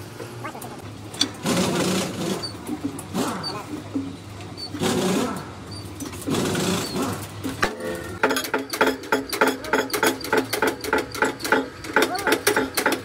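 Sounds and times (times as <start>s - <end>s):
rapid mechanical clicking: 1.0s - 13.0s
irregular clatter: 1.1s - 13.0s.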